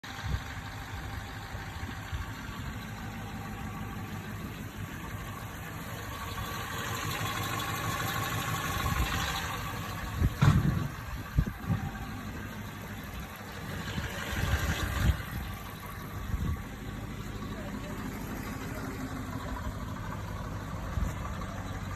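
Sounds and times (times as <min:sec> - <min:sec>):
car engine idling with ticking: 0:00.0 - 0:21.9.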